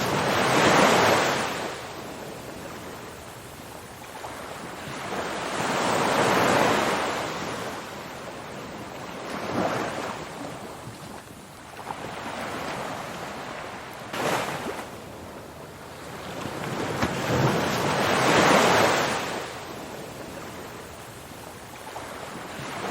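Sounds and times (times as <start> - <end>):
ocean waves breaking: 0.0 - 22.9.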